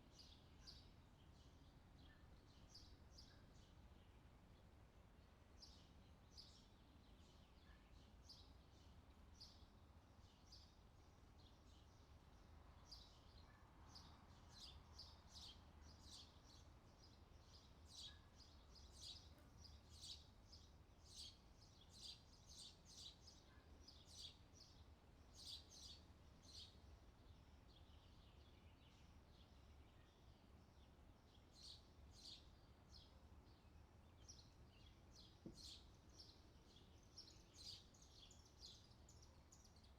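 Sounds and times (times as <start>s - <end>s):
small birds chirping: 5.6s - 39.9s.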